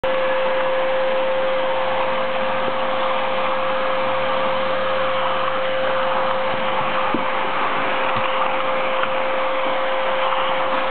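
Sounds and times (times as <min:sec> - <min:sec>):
vacuum cleaner running: 0:00.0 - 0:10.9.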